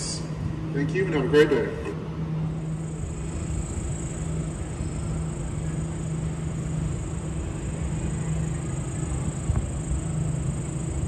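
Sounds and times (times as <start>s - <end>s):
high whine: 0.0s - 11.0s
low electric hum of trains: 0.0s - 11.0s.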